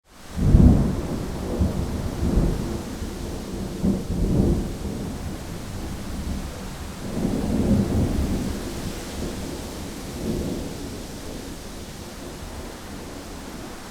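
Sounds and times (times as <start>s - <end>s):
faint steady hiss: 0.1s - 13.9s
thunder rumbling: 0.4s - 13.9s
wind noise: 0.4s - 13.9s.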